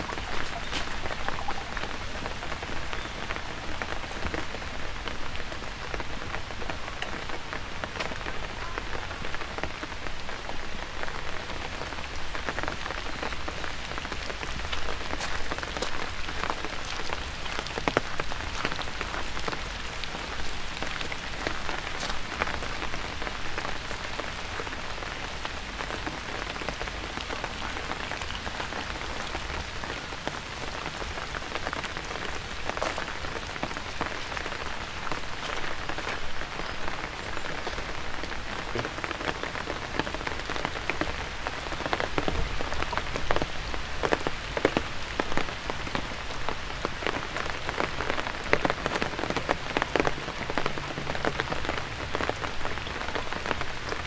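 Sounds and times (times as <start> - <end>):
rain drops ticking: 0.0 - 54.0
steady rain on pavement: 0.0 - 54.0.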